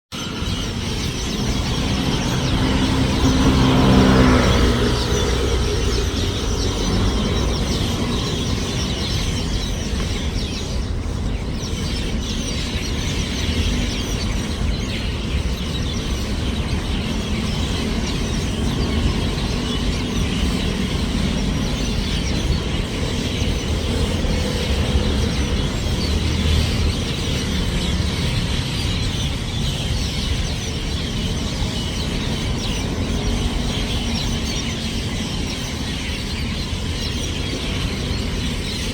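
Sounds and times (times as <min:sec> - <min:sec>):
city traffic rumble: 0:00.1 - 0:38.9
flock of small birds chirping: 0:00.1 - 0:38.9.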